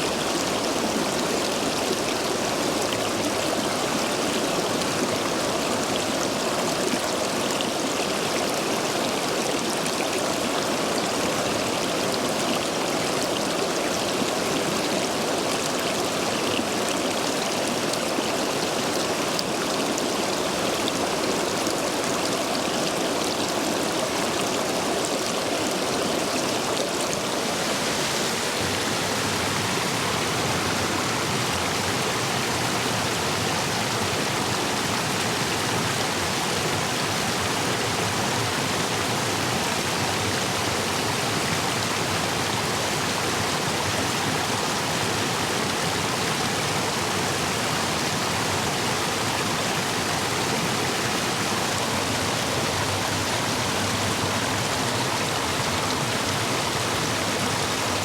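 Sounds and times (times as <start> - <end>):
stream water rushing over stones: 0.0 - 58.0.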